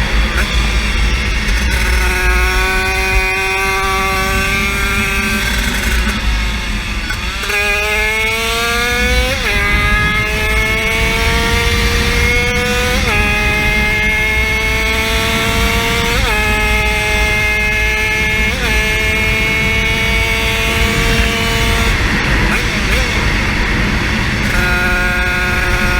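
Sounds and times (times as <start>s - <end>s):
motorcycle engine at full throttle: 0.0s - 25.9s.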